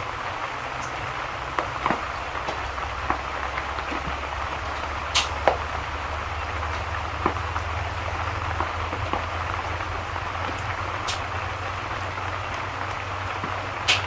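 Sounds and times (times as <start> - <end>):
fireplace crackling pops: 0.0 - 14.0
steady rain: 0.0 - 14.0.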